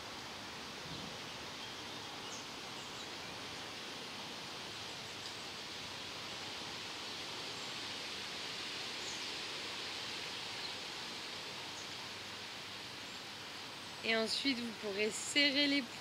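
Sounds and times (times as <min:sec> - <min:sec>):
rustling hiss: 0:00.0 - 0:16.0.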